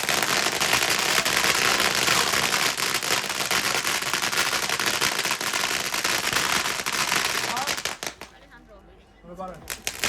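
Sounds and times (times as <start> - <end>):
fireworks crackling: 0.0 - 8.6, 9.6 - 10.0.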